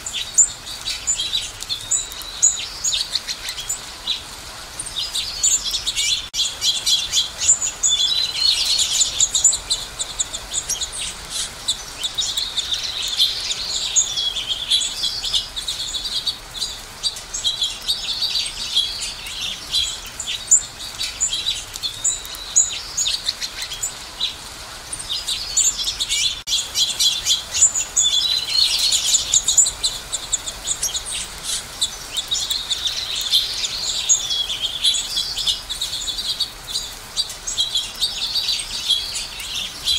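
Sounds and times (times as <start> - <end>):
finches chirping: 4.8 - 24.4, 25.0 - 39.9.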